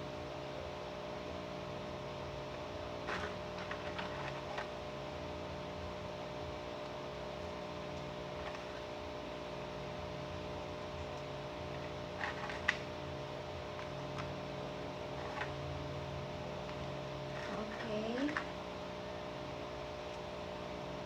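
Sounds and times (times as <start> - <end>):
electrical hum with hiss: 0.0 - 21.0.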